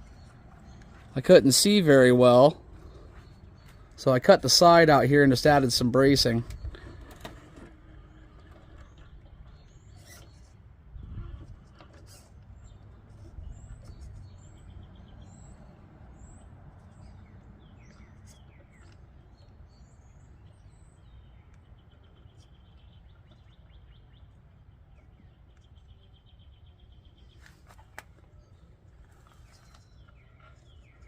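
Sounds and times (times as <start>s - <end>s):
birds chirping and trilling: 0.0s - 31.0s.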